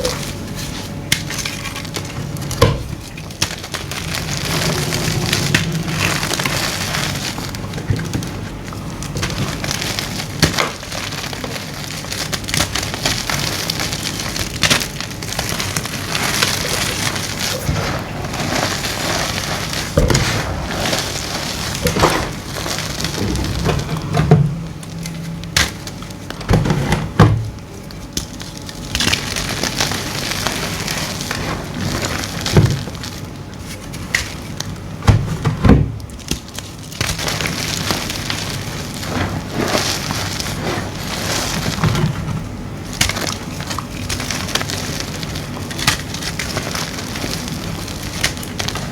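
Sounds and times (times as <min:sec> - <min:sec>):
chalk crunching and crackling: 0:00.0 - 0:26.4, 0:27.6 - 0:34.8, 0:36.3 - 0:48.9.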